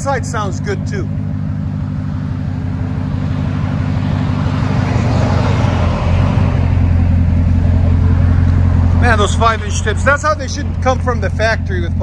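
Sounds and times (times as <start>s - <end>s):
truck exhaust drone: 0.0s - 12.0s.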